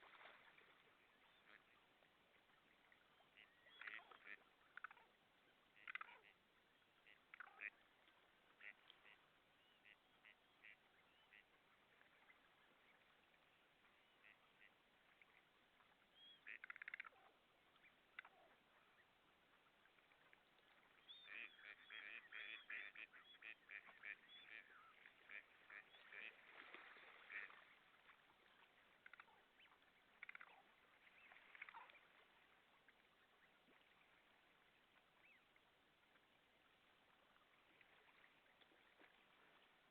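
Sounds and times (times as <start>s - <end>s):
birds calling faintly: 0.0s - 39.9s.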